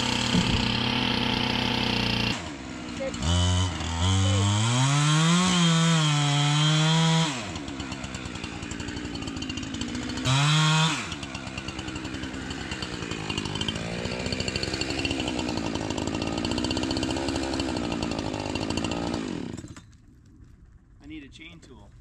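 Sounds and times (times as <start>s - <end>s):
chainsaw cutting wood: 0.0s - 20.5s.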